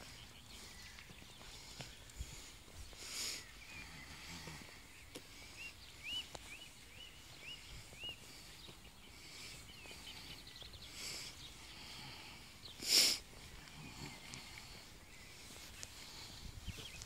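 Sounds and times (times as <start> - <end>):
faint rapid bird trill: 0.0 - 17.0.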